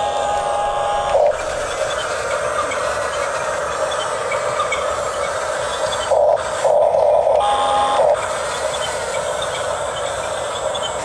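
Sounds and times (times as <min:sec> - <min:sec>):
toy bulldozer motors whirring: 0:00.0 - 0:11.0.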